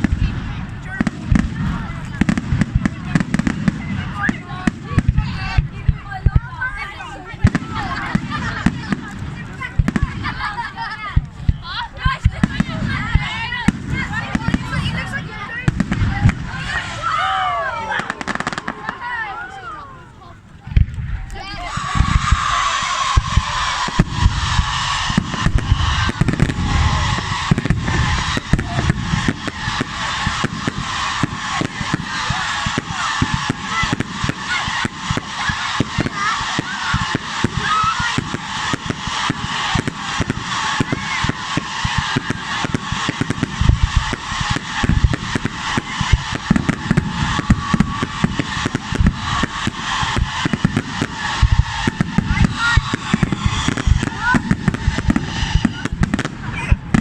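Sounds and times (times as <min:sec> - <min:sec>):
crowd: 0:00.0 - 0:57.0
firecrackers cracking: 0:00.0 - 0:57.0.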